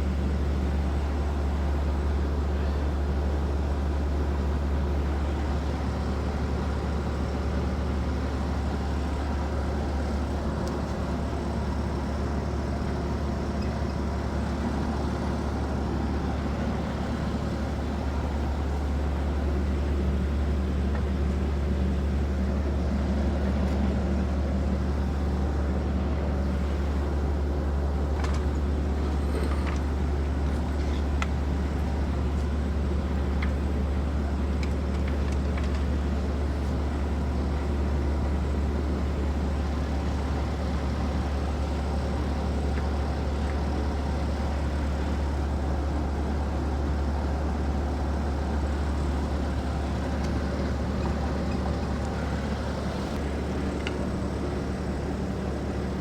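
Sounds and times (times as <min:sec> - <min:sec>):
low mechanical drone: 0:06.6 - 0:56.0.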